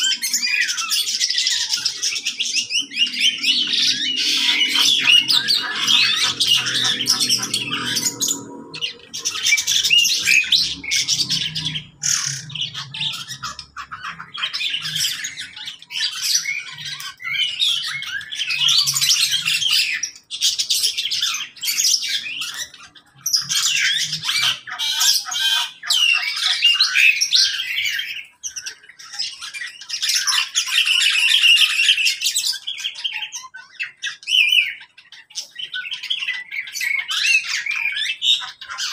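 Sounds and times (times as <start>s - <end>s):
small birds squawking and chirping: 0.0s - 38.9s.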